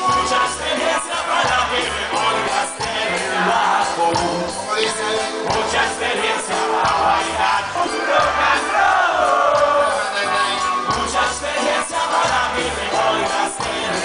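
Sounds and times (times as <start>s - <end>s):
crowd noise: 0.0s - 14.0s
drums: 0.0s - 14.0s
guitar: 0.0s - 14.0s
live band through speakers: 0.0s - 14.0s.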